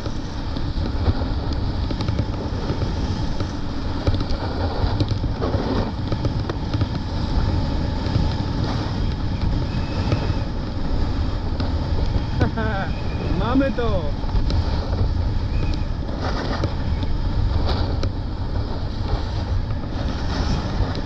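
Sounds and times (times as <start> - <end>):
snowboard scraping on snow: 0.0 - 21.0
wind on microphone: 0.0 - 21.0.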